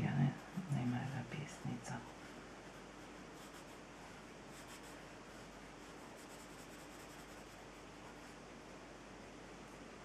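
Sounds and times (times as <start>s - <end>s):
pencil scratching on paper: 0.2s - 8.4s.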